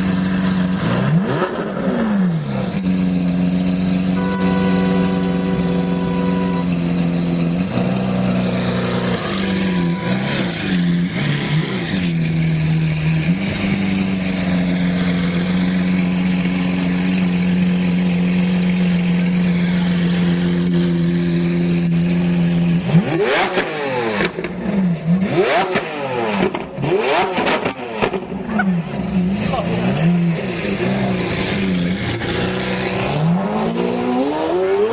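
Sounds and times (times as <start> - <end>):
car engine running and revving: 0.0 - 34.9.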